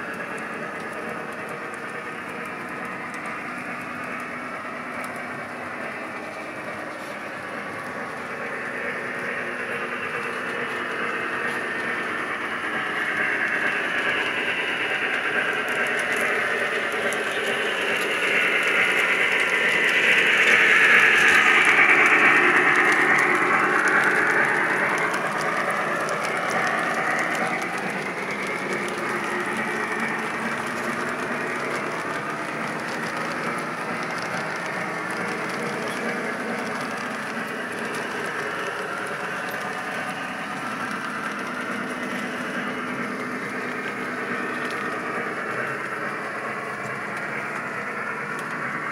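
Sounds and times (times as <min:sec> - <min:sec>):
model train running on track: 0:00.0 - 0:48.9.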